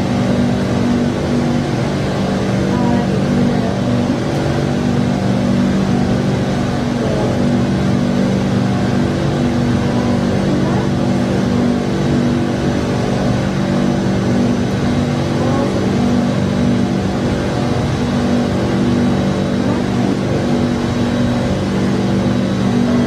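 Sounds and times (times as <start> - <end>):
metro train droning: 0.0 - 23.0.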